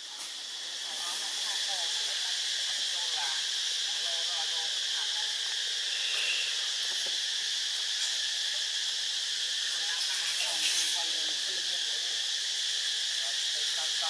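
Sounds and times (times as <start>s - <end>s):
insect chorus buzzing: 0.0s - 14.0s.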